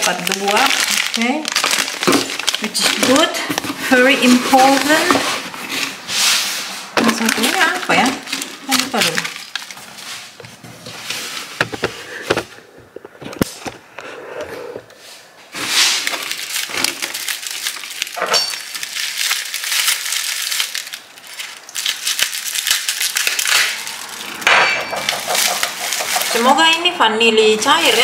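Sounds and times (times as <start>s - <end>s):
packing paper crinkling: 0.0s - 13.8s, 15.5s - 28.0s.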